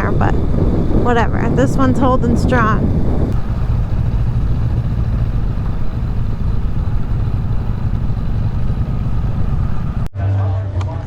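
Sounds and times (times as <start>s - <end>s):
motorcycle engine rumbling: 0.0s - 10.1s
wind noise on microphone: 0.0s - 10.1s.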